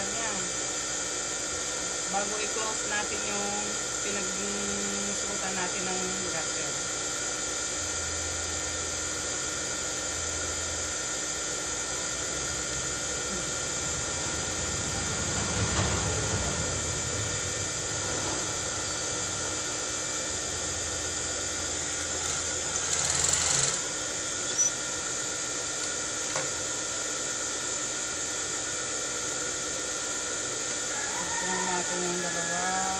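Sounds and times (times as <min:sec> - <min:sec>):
sewing machine motor hum: 0:00.0 - 0:26.8.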